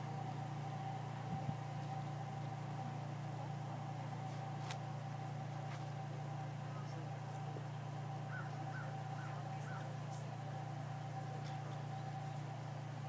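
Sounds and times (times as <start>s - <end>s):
low mechanical hum: 0.0s - 13.0s
thin constant tone: 0.0s - 13.0s.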